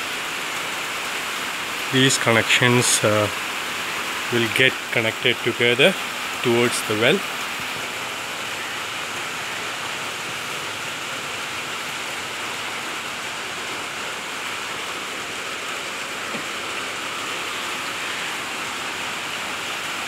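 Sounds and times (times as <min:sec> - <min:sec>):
rain on a metal roof: 0:00.0 - 0:20.0.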